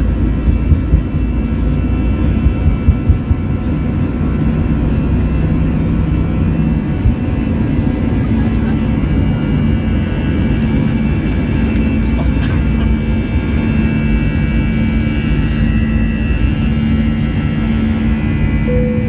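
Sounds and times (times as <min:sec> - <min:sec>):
jet engines roaring from cabin: 0:00.0 - 0:19.0.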